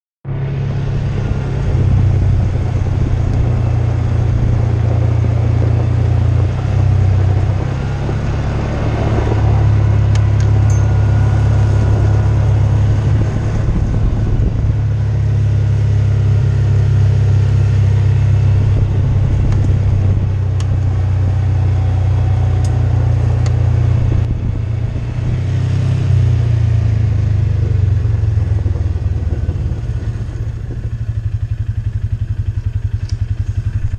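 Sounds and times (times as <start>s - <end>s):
vehicle engine driving on gravel: 0.3s - 33.9s.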